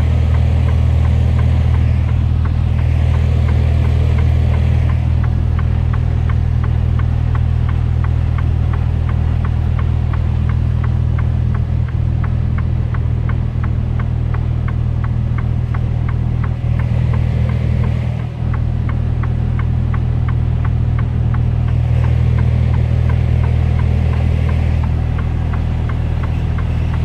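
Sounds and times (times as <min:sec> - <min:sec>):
diesel engine low hum: 0:00.0 - 0:27.0
turn signal ticking: 0:00.0 - 0:27.0.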